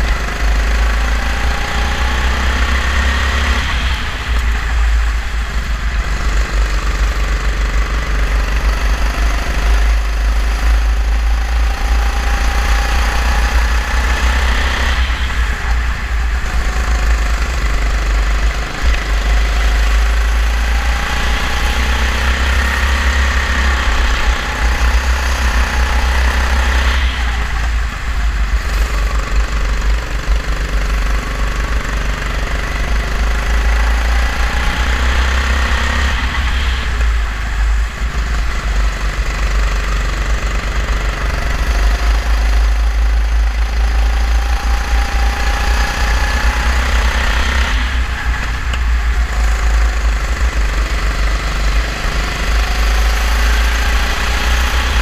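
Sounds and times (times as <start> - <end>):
go-kart engine racing: 0.0 - 55.0.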